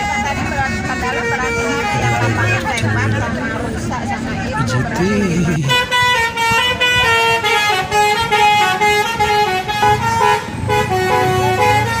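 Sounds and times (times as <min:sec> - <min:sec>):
musical bus horn playing a tune: 0:00.0 - 0:03.4, 0:05.0 - 0:12.0.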